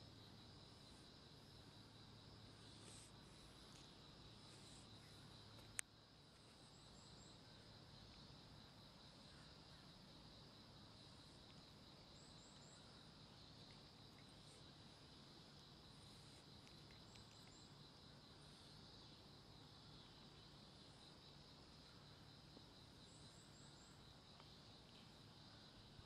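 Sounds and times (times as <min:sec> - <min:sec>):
insect chirring: 0:00.0 - 0:26.0.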